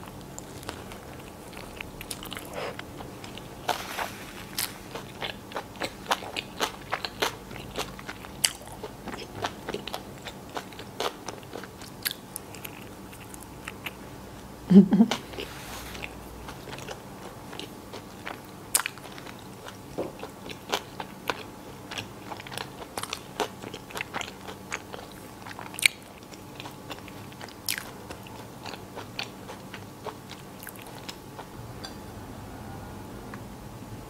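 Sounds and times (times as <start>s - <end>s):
person chewing crunchy food: 0.0s - 14.0s, 15.1s - 31.6s.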